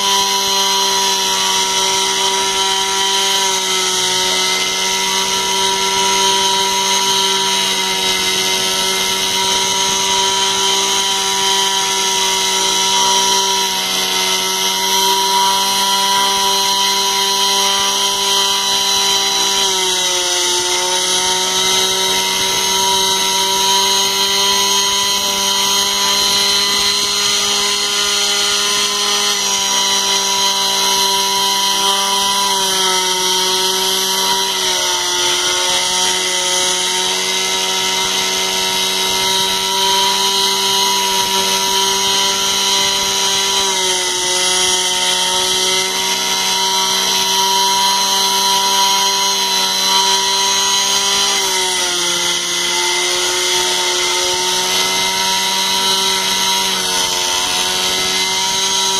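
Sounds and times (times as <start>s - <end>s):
router spindle whining: 0.0s - 58.9s.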